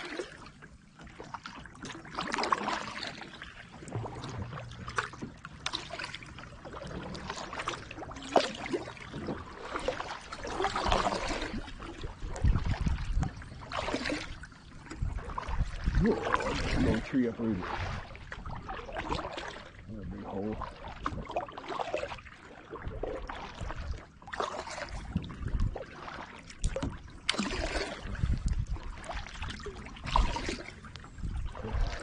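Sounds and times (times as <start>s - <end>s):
kayak paddle strokes in water: 0.0s - 32.0s.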